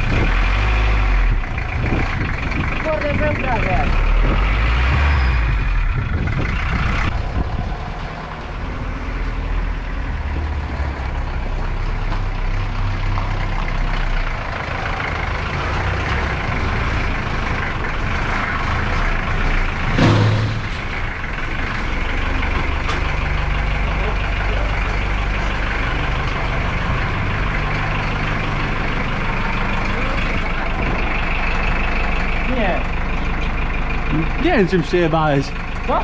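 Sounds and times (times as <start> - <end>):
van engine running: 0.0 - 36.0.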